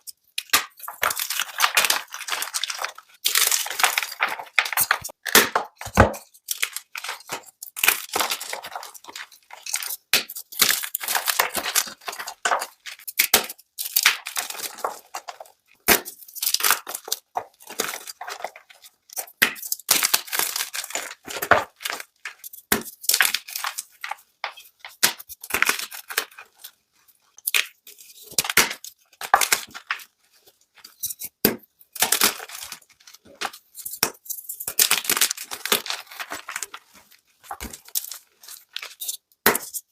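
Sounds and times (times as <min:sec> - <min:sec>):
chalk being crushed: 0:00.0 - 0:26.7, 0:27.4 - 0:39.9.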